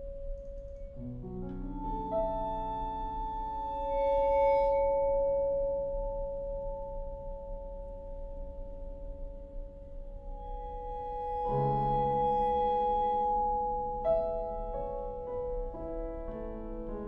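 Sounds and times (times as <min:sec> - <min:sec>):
slow instrumental music: 0:00.0 - 0:17.0.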